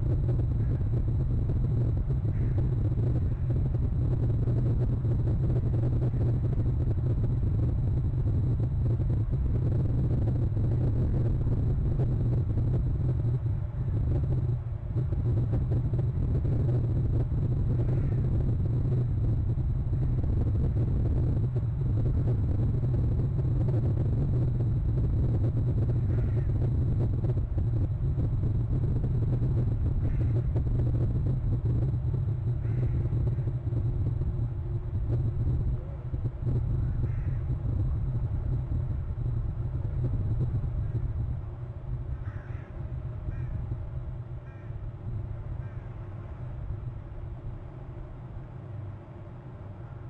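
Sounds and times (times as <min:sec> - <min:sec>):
low wind rumble with hiss: 0:00.0 - 0:50.0.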